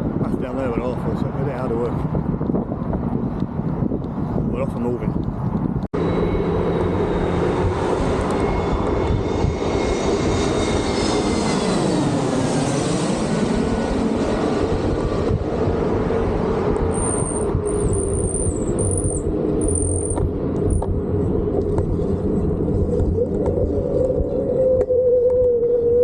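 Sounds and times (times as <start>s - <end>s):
wind and road noise: 0.0s - 26.0s
high whine: 3.8s - 26.0s.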